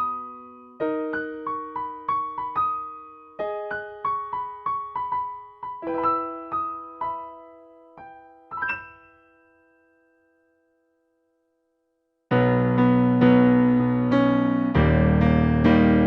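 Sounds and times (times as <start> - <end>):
electric piano music: 0.0 - 10.8, 12.3 - 16.0.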